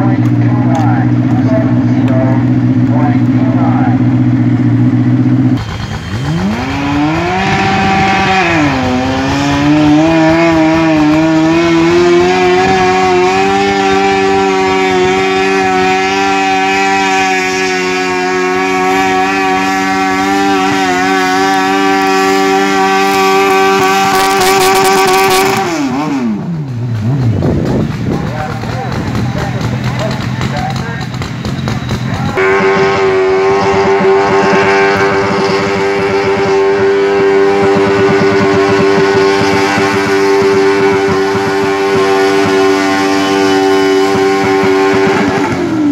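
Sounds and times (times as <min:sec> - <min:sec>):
lawnmower engine running: 0:00.0 - 0:45.9.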